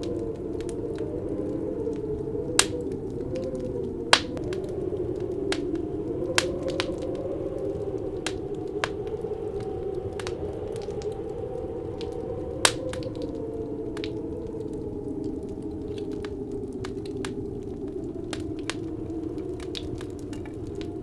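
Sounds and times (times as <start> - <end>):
low howling wind: 0.0 - 21.0
wood fire crackling: 0.0 - 21.0.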